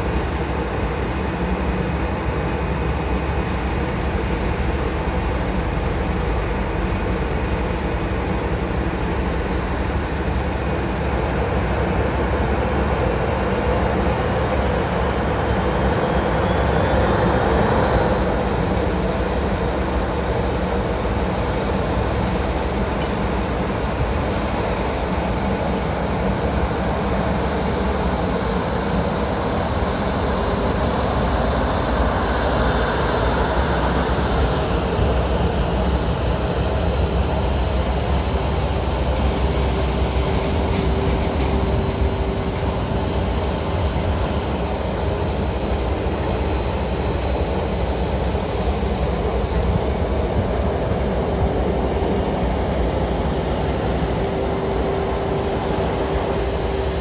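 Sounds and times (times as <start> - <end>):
jet engine rumble and hiss: 0.0 - 57.0
jet engine whine rising: 0.0 - 57.0.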